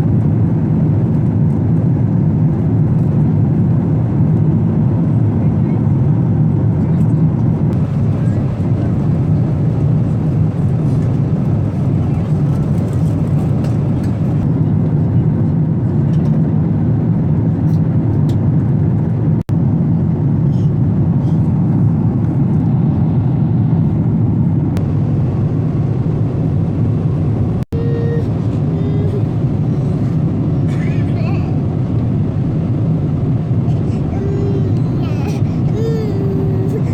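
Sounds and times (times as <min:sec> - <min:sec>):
jet engine rumble in cabin: 0:00.0 - 0:36.9.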